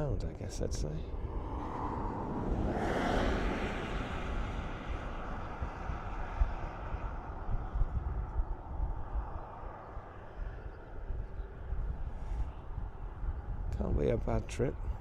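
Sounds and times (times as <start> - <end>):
turboprop aircraft engines: 0.0 - 15.0
wind gusts on microphone: 0.0 - 15.0.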